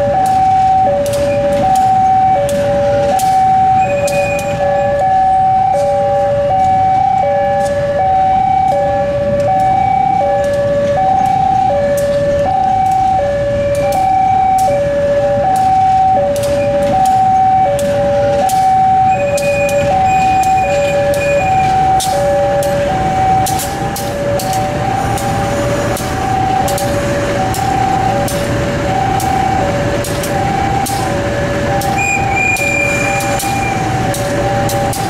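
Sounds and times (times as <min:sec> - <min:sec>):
locomotive low rumble: 0:00.0 - 0:35.0.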